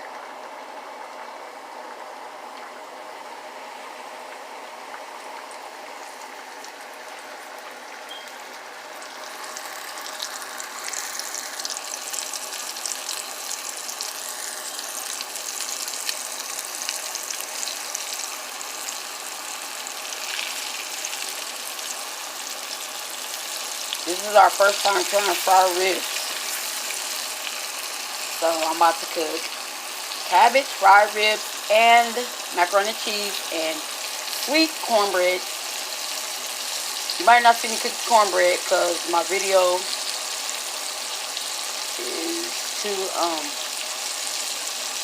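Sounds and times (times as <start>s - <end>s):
ribs sizzling in hot oil: 3.6s - 45.0s.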